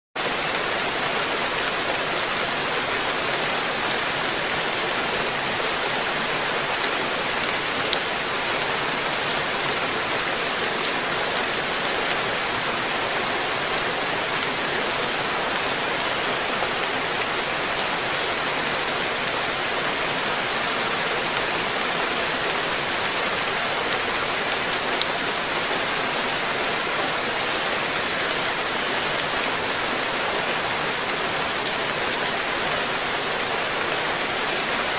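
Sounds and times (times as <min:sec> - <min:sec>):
rain on pond: 0:00.2 - 0:34.9.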